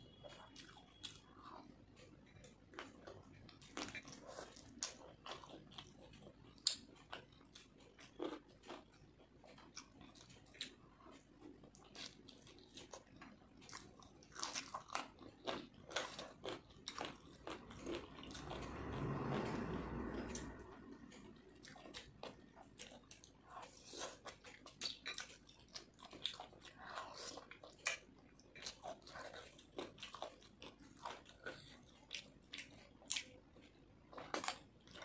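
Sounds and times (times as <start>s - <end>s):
wet chewing: 0.1s - 35.0s.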